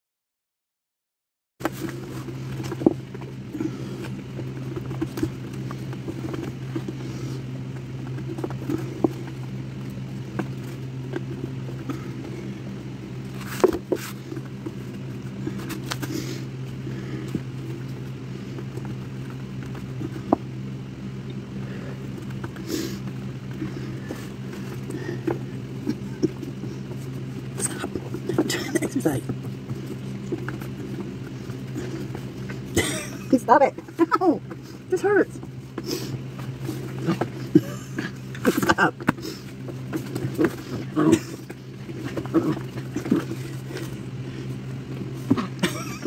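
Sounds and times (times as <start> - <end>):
steady low hum: 1.6 - 46.0.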